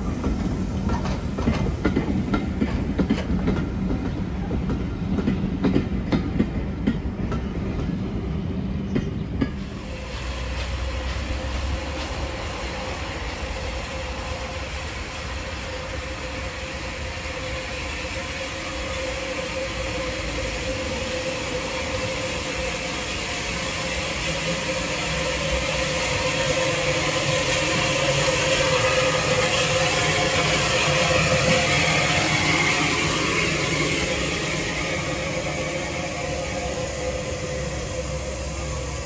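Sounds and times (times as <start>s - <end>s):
steam hiss: 0.0s - 39.0s
steam locomotive running: 0.0s - 39.0s.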